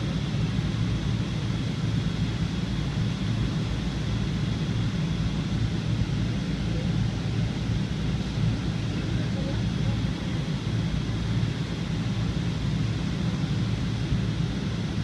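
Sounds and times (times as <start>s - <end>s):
jet engine rumble and whine: 0.0s - 15.0s.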